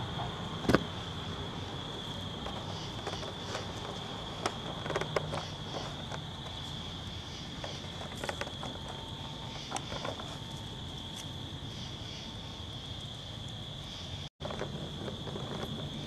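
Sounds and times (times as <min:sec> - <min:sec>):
crackles and rustles: 0:00.0 - 0:16.0
night insects trilling: 0:00.0 - 0:16.0.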